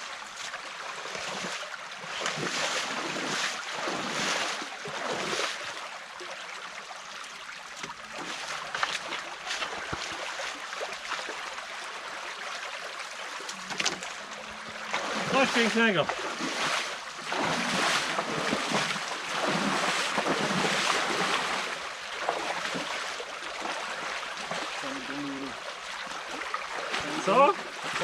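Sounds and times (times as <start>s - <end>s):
stream water rushing and splashing: 0.0s - 28.0s.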